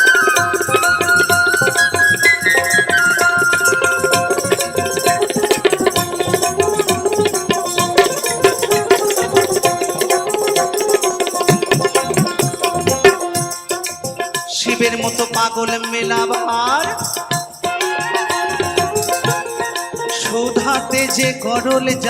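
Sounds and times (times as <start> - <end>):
fast hand drum rhythm: 0.0 - 22.0
jingling percussion: 0.0 - 22.0.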